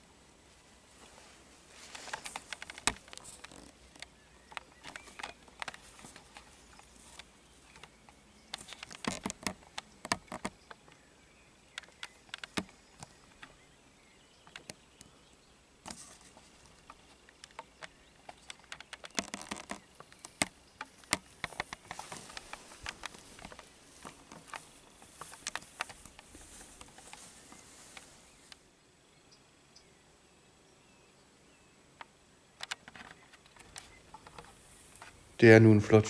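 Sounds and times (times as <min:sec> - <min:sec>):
leaves and twigs crackling: 0:00.0 - 0:28.6, 0:32.6 - 0:36.0.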